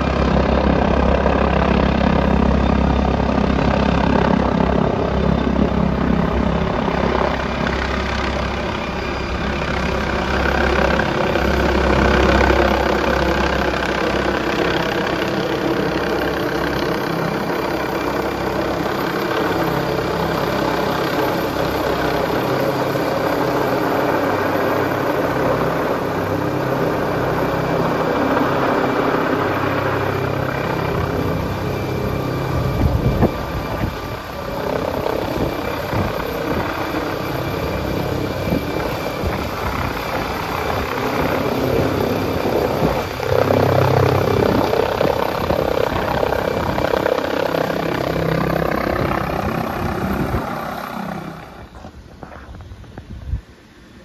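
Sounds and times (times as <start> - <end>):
helicopter hovering: 0.0 - 52.8.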